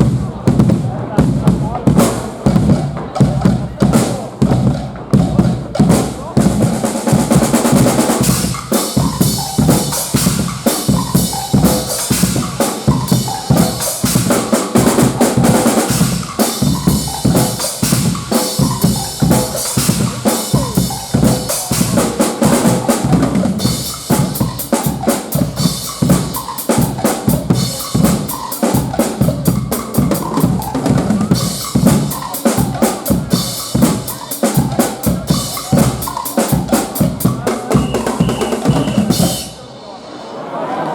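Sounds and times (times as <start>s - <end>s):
drums and cymbals beating: 0.0s - 40.4s
carnival band playing: 0.0s - 40.8s.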